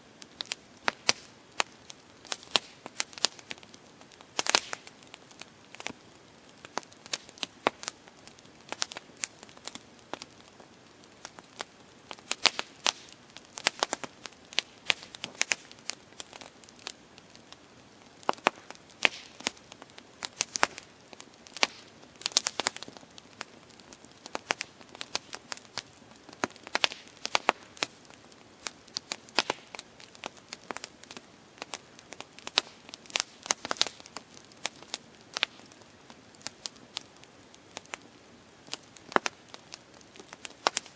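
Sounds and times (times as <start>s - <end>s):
campfire crackling and popping: 0.0s - 40.9s
faint steady hiss: 0.0s - 40.9s.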